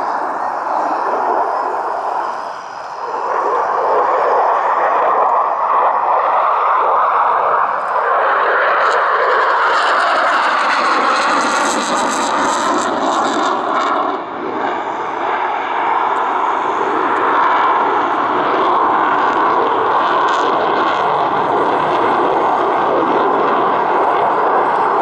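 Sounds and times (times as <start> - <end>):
jet engine roar: 0.0 - 25.0.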